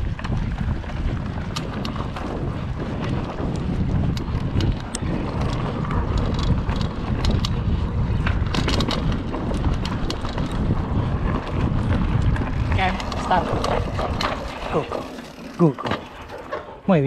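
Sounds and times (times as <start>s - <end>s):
mountain bike rolling over dirt: 0.0s - 16.8s
bike clicks and rattles: 0.0s - 17.0s
wind buffeting microphone: 0.0s - 17.0s.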